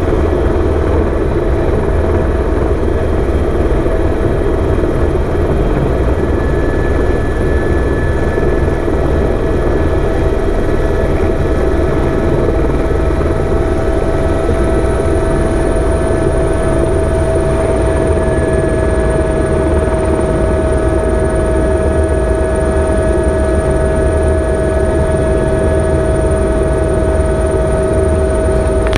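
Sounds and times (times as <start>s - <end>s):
helicopter engine and rotor: 0.0s - 28.9s.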